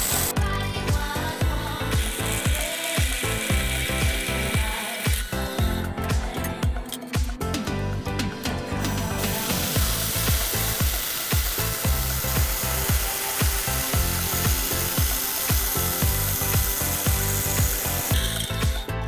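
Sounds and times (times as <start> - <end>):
band saw cutting steel: 0.0 - 7.2, 8.2 - 19.0
electronic beat music: 0.0 - 19.0.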